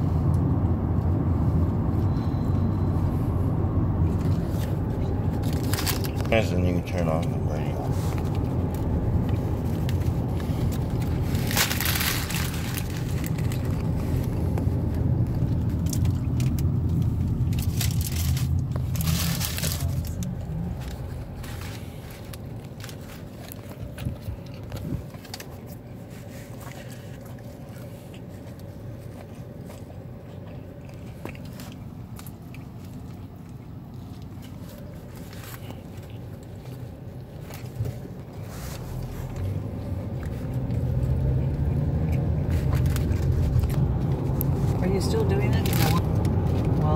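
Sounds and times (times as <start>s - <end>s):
biting and chewing burger: 0.0s - 44.8s
car engine rumble: 0.0s - 46.9s
crunchy crinkly bursts: 4.2s - 41.1s, 42.4s - 46.2s.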